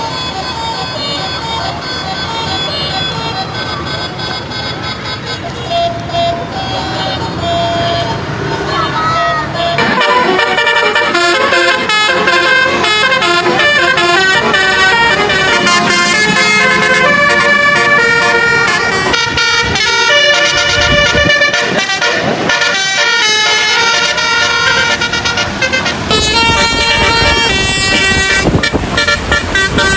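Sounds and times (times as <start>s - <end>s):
air horns playing a tune: 5.7s - 29.9s.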